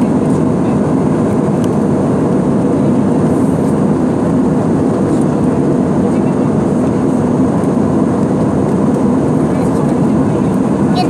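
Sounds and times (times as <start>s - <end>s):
jet airliner cabin roar: 0.0s - 11.0s.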